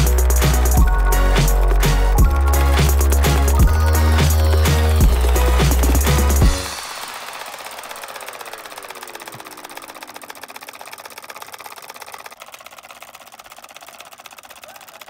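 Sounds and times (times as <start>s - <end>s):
solenoid engine clattering: 0.0s - 15.0s.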